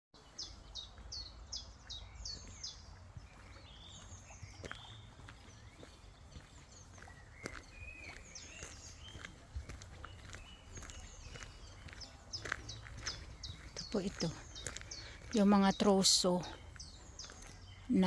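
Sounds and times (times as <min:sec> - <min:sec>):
birds chirping and whistling: 0:00.2 - 0:18.0.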